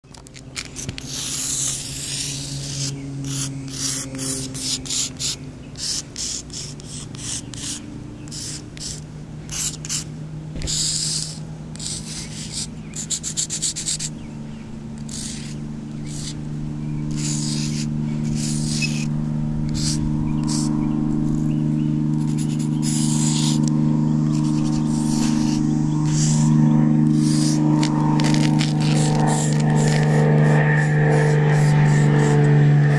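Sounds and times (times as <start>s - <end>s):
steady low hum: 0.0s - 32.9s
chalk scraping on pavement: 0.1s - 14.3s, 15.0s - 32.9s.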